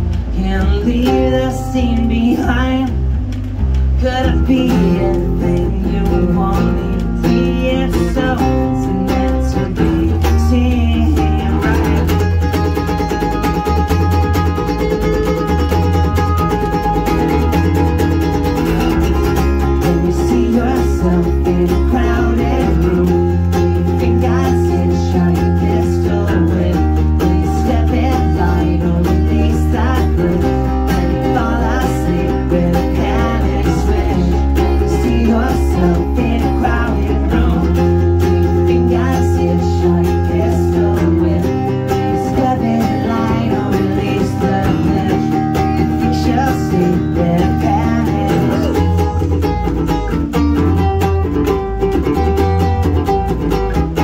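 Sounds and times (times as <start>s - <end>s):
acoustic bass guitar deep notes: 0.0s - 54.0s
acoustic guitar: 0.0s - 54.0s.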